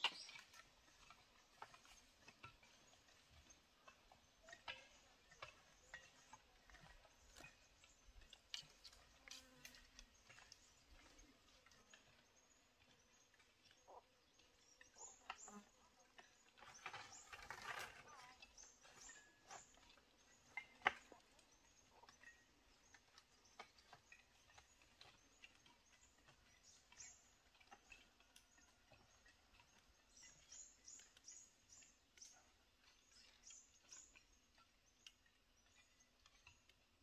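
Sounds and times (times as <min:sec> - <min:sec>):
birds chirping: 0:00.0 - 0:36.7.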